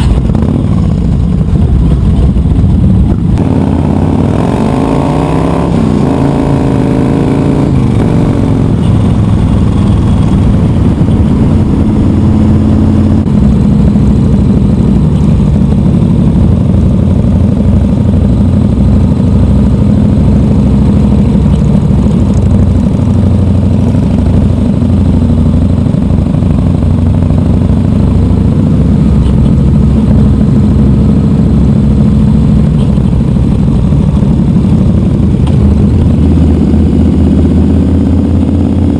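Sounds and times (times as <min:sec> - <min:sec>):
motorcycle engine running loudly: 0:00.0 - 0:38.9.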